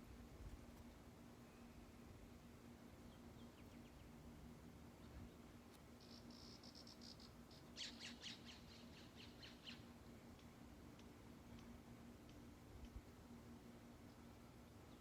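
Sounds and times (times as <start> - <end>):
songbird singing faintly: 0.0 - 15.0.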